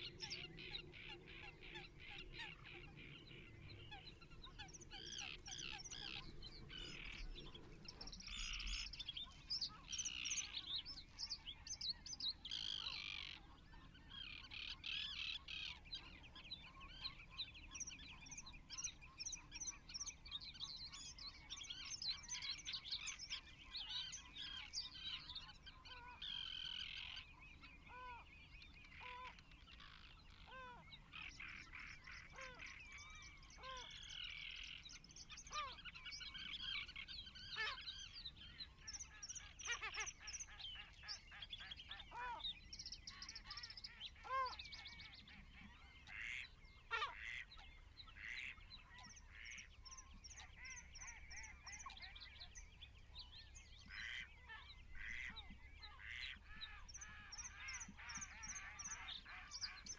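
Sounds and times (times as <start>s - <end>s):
birds chirping and twittering: 0.0s - 59.9s.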